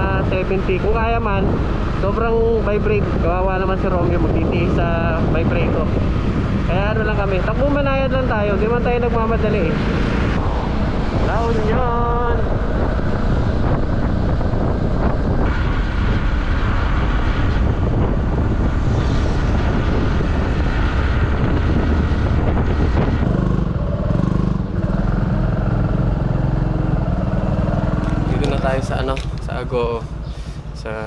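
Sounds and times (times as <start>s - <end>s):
motorcycle engine drone: 0.0s - 31.0s
wind and road rush: 0.0s - 31.0s.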